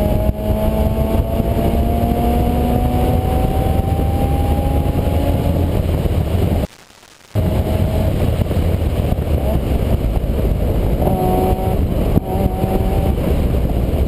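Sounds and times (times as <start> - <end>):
vehicle rumbling in motion: 0.0 - 6.7, 7.3 - 14.0.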